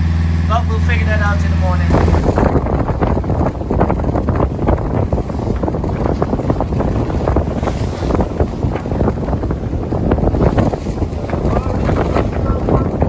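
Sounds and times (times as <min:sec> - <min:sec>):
waves washing: 0:00.0 - 0:13.0
wind buffeting microphone: 0:01.0 - 0:13.0.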